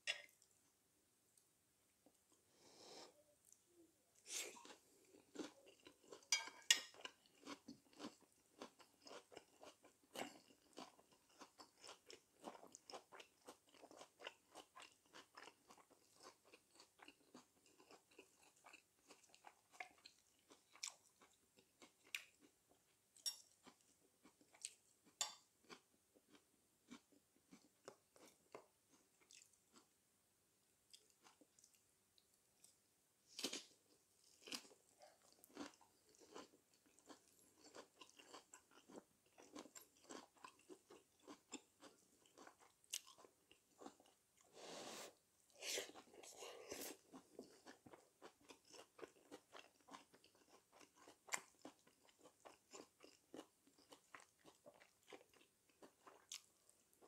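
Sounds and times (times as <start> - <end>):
chewing and crunching: 4.4 - 29.9, 32.6 - 44.5, 45.8 - 57.0.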